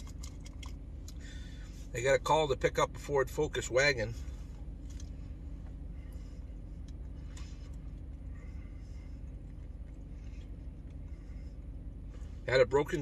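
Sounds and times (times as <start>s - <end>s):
truck hum inside cab: 0.0s - 13.0s.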